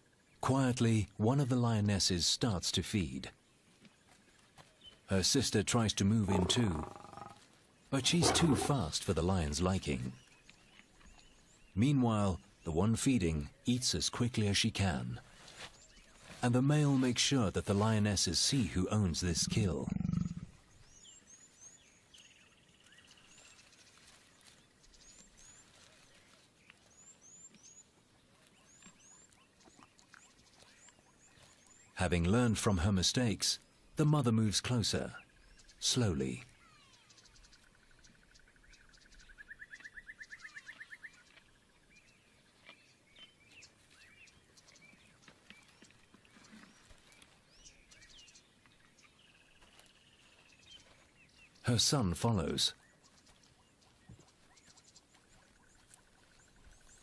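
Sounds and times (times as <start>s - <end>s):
small birds chirping: 2.0s - 57.0s.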